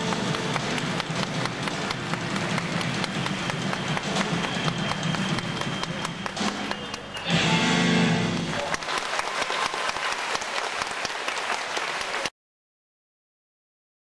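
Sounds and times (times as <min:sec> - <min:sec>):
audience applause: 0:00.0 - 0:12.3.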